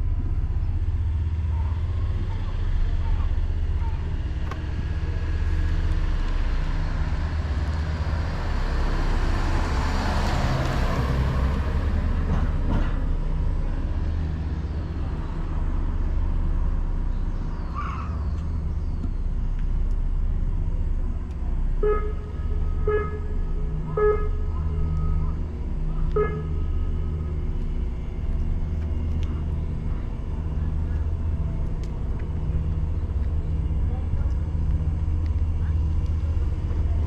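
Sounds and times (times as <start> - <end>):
low engine drone: 0.0 - 37.0.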